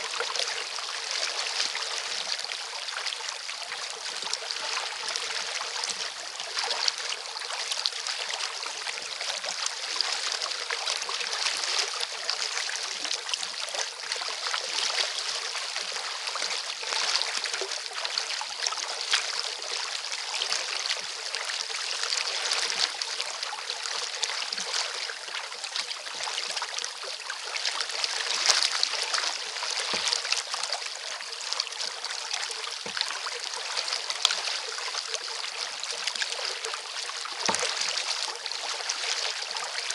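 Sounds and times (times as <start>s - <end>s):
water splashing around kayak: 0.0s - 39.9s.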